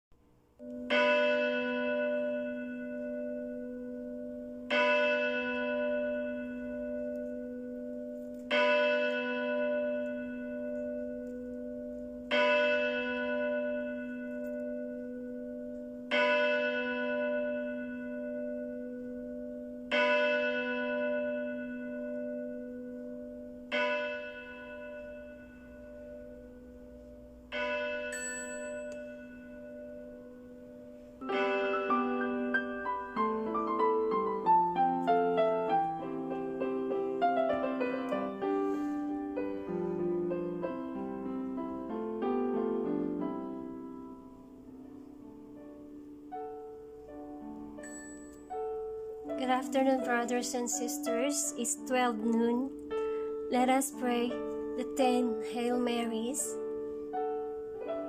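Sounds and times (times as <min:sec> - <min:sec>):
church bell tolling: 0:00.6 - 0:58.0.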